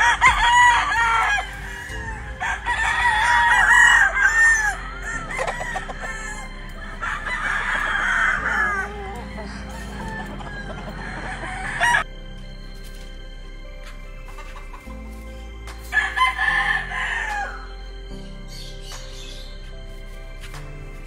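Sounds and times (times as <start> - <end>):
roosters crowing: 0.0 - 12.1, 14.4 - 19.5.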